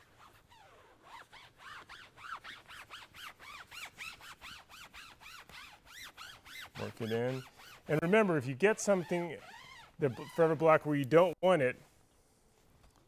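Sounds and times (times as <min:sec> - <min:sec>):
foam pad squeaking on vinyl: 0:00.0 - 0:10.9.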